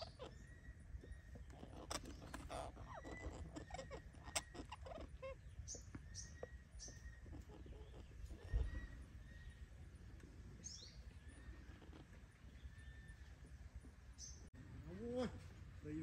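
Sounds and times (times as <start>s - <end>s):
bird chirping: 0.0s - 14.6s.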